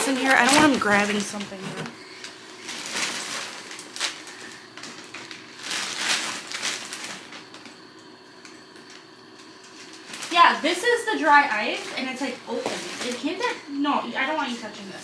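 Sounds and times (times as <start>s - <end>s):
packaging rustling and crinkling: 0.0s - 13.6s.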